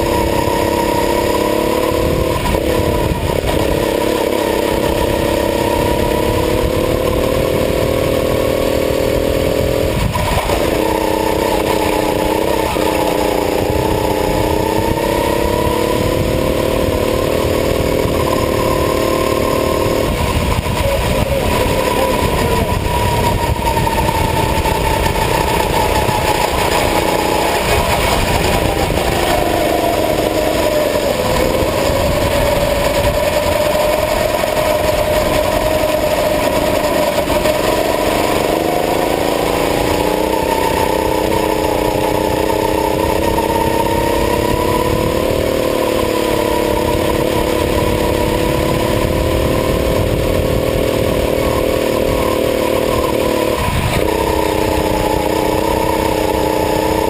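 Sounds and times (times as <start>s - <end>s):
go-kart engine running: 0.0s - 57.0s
steady rushing noise: 0.0s - 57.0s.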